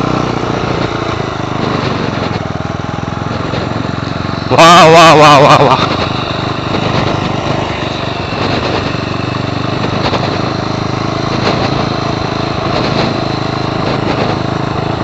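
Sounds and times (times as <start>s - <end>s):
motorcycle engine buzzing: 0.0s - 15.0s.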